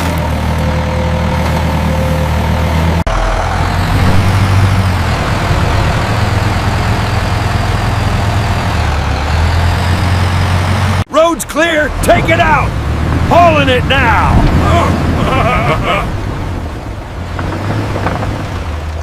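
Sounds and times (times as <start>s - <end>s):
heavy vehicle engine running: 0.0s - 19.0s.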